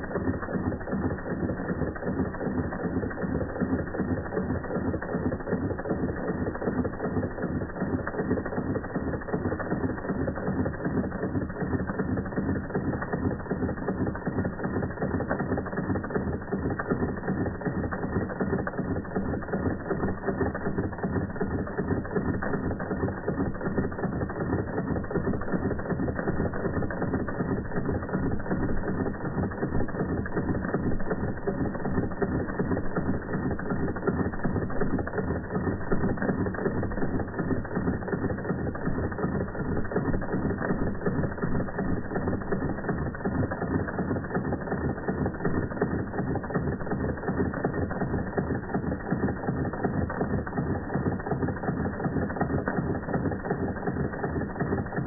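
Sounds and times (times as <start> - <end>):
toy steam engine clicking: 0.0 - 55.0.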